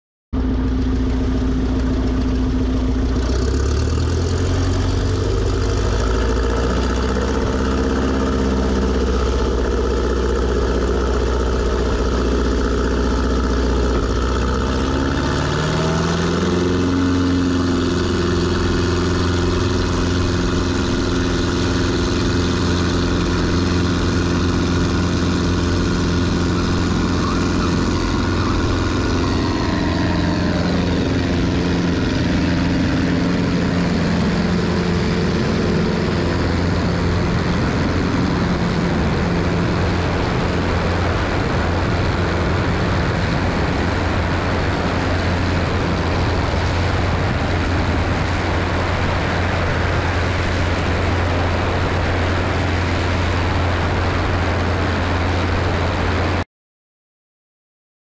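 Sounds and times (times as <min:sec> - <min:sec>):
propeller plane engine: 0:00.3 - 0:56.4.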